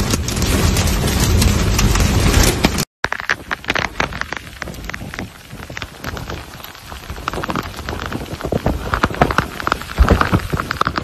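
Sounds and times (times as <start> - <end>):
heavy rain pelting down: 0.0 - 11.0.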